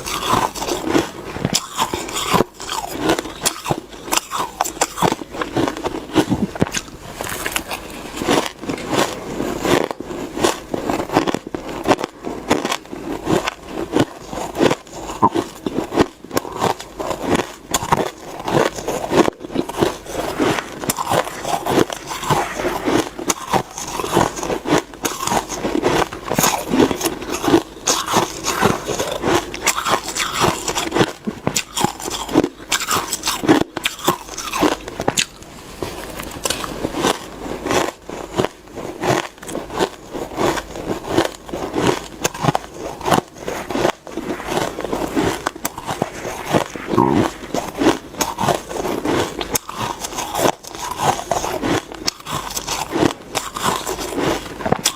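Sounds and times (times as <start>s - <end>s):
crunching shaved ice: 0.0s - 54.9s.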